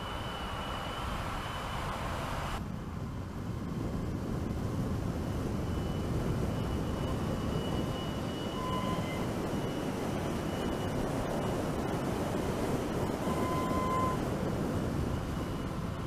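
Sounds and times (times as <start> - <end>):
faint high whine: 0.0 - 16.0
truck tyre and road rumble: 0.0 - 16.0.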